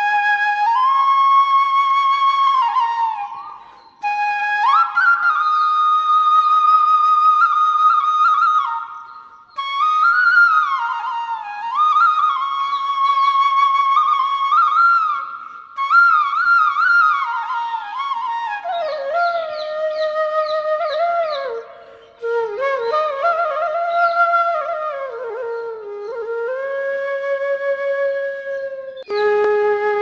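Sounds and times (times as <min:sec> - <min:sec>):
flute playing a slow melody: 0:00.0 - 0:30.0.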